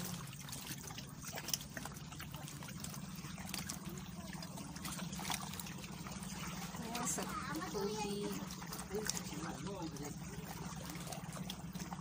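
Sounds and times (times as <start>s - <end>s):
seawater lapping against rock: 0.0s - 12.0s
water drips and splashes: 0.0s - 12.0s.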